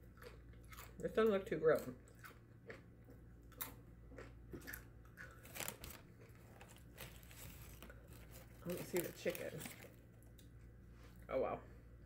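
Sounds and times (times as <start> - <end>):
person chewing crunchy food: 0.0 - 10.6.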